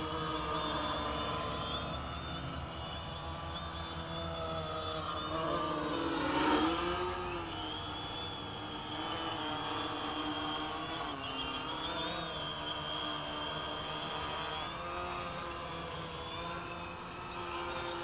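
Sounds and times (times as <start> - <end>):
quadcopter propellers buzzing: 0.0 - 18.0.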